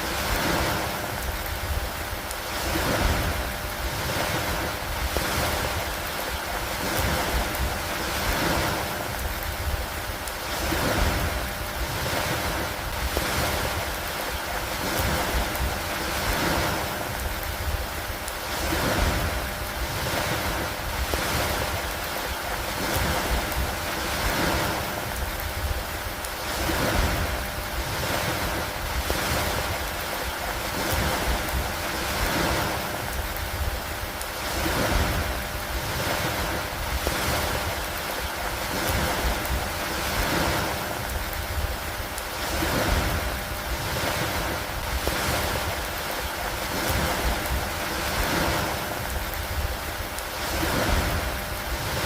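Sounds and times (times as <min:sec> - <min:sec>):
rain and wind: 0:00.0 - 0:52.0.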